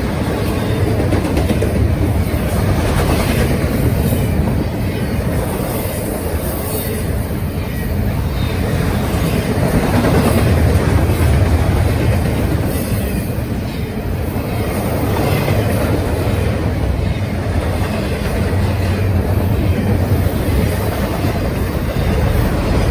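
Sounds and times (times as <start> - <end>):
freight train wheels rumbling: 0.0 - 22.9.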